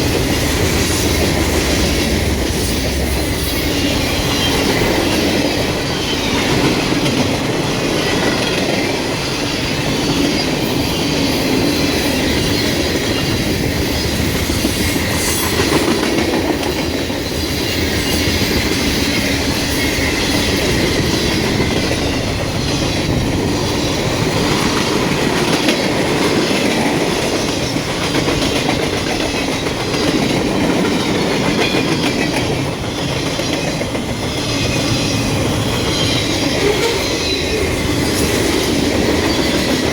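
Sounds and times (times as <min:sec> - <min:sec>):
freight train wheels clicking on rails: 0:00.0 - 0:39.9.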